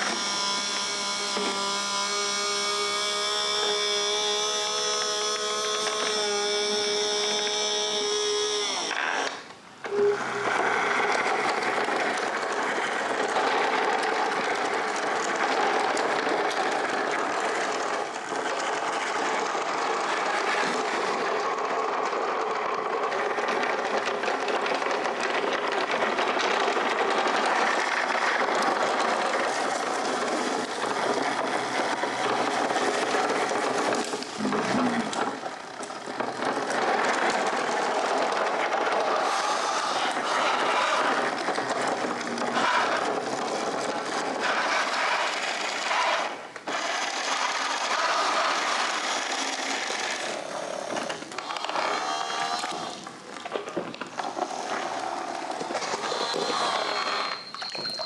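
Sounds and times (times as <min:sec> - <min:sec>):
small electric motors whirring: 0:00.0 - 0:58.0.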